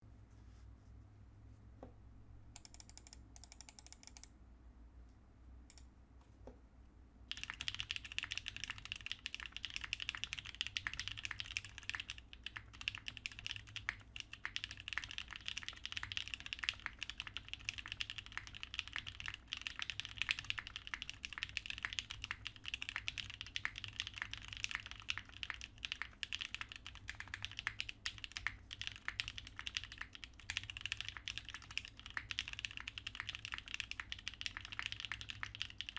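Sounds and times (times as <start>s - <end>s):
mechanical keyboard typing: 2.6s - 4.3s, 7.3s - 35.9s.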